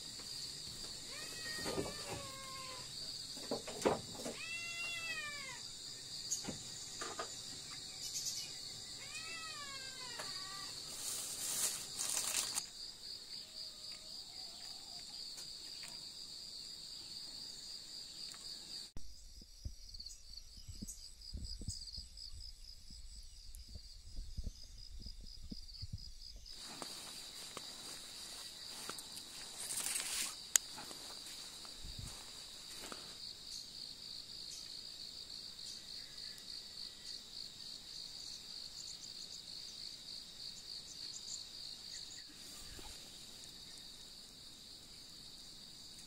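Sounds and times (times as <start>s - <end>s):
crickets and insects chirring: 0.0s - 46.0s.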